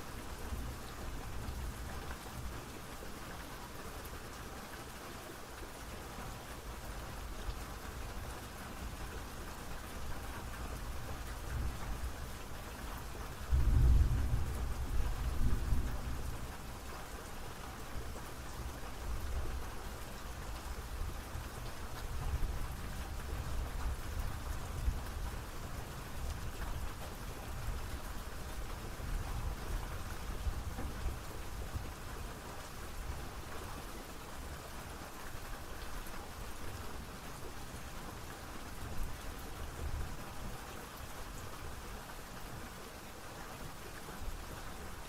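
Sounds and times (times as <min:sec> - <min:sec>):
steady rain: 0:00.0 - 0:45.0.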